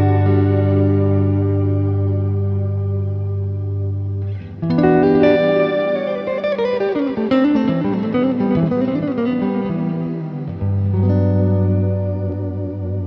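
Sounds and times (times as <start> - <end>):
electric guitar with reverb: 0.0 - 13.0.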